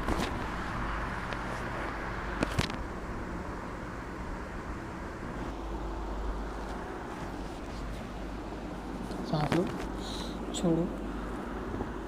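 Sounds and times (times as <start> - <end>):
steady hum: 0.0 - 12.0
traffic-like noise: 0.0 - 12.0.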